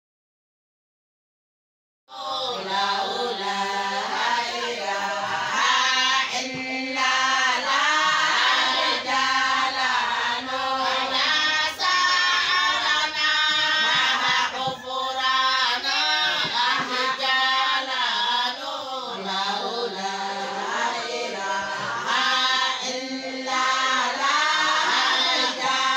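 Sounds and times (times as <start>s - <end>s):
women singing in chorus: 2.1s - 25.9s.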